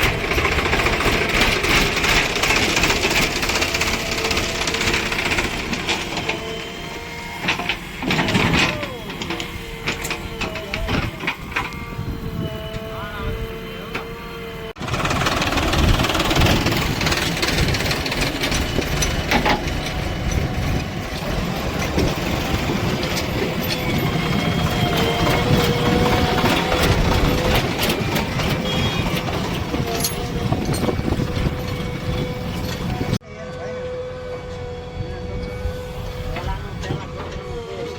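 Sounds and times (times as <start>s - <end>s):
diesel engine rumbling: 0.0s - 37.9s.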